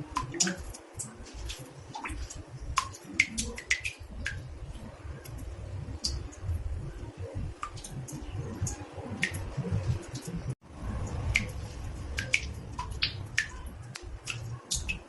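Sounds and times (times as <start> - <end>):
water drops plinking into bathtub: 0.1 - 6.6, 7.4 - 15.0
low steady rumble: 1.0 - 14.9.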